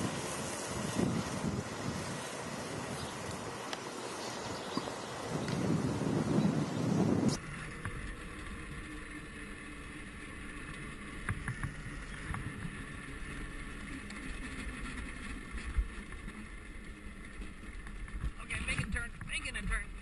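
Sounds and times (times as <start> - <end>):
electric motor and chain hum: 0.0 - 20.0
tyre and road rumble: 0.0 - 20.0.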